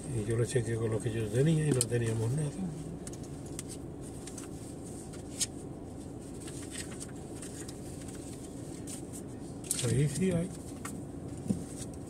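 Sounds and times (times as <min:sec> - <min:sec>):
idling car cabin rumble: 0:00.0 - 0:12.0
faint clicks and rustles: 0:01.1 - 0:12.0.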